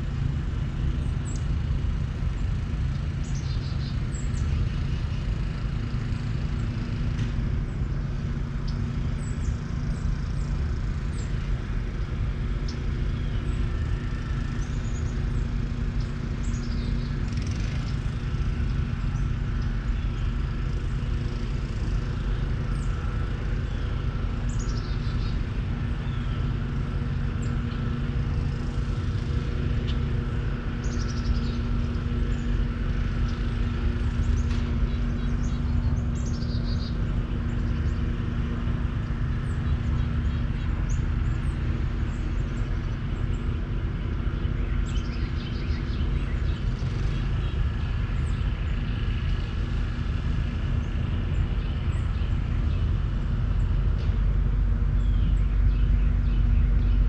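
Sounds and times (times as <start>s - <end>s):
faint droning hum: 0.0s - 57.0s
birds chirping: 0.6s - 57.0s.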